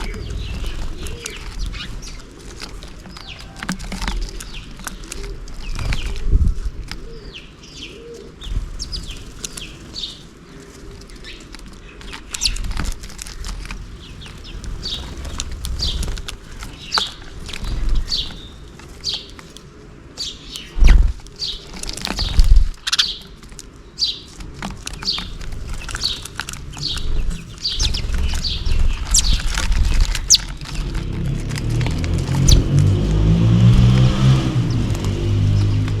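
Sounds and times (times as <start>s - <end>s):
sparrows chirping: 0.0s - 36.0s.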